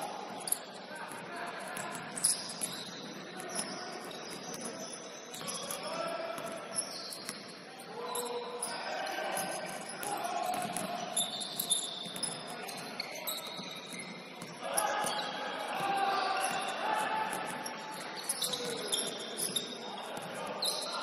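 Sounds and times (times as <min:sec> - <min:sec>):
sneakers squeaking: 0:00.0 - 0:21.0.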